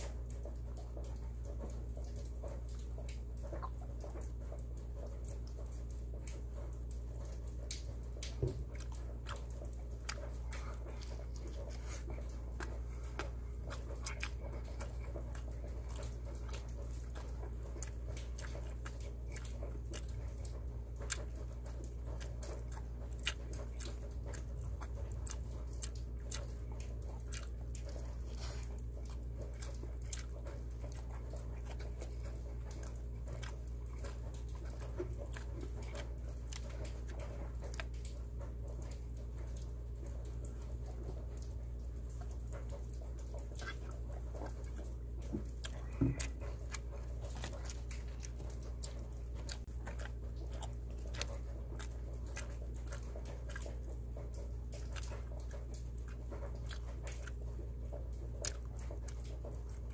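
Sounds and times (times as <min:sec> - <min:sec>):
man chewing: 0:00.0 - 0:59.9
steady low hum: 0:00.0 - 0:59.9
wet mouth clicks and smacks: 0:00.0 - 0:59.9.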